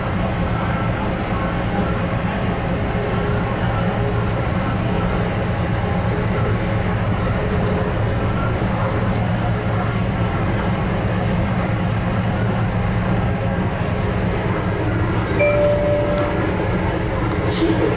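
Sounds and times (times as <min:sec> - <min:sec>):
train low hum: 0:00.0 - 0:17.9
wheels rumbling on track: 0:00.0 - 0:17.9.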